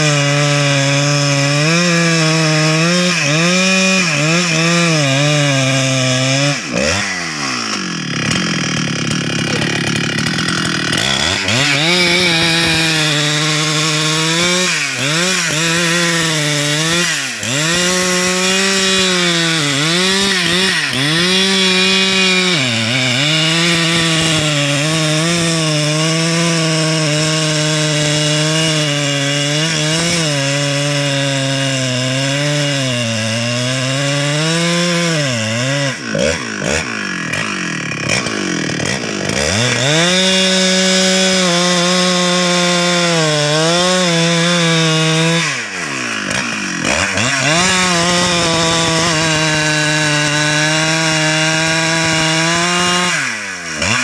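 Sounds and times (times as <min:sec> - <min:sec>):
chainsaw cutting into tree trunk: 0:00.0 - 0:54.0.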